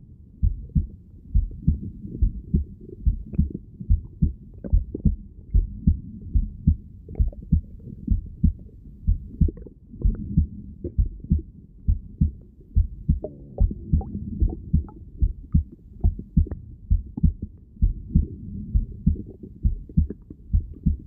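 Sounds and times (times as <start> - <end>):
heartbeat through stethoscope: 0.4 - 21.0.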